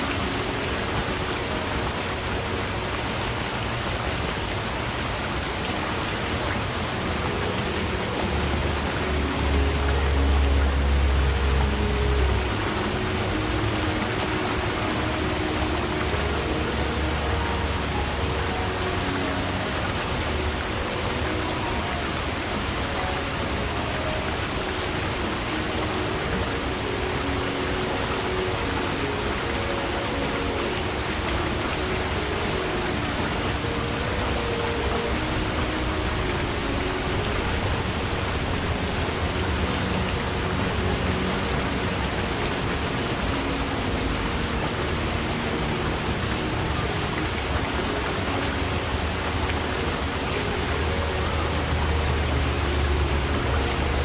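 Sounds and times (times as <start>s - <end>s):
stream water rushing: 0.0s - 54.0s
water gurgling: 0.0s - 54.0s.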